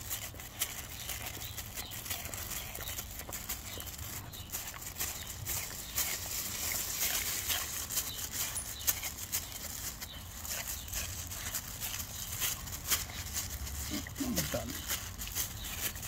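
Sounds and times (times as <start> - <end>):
dog licking: 0.0 - 16.0.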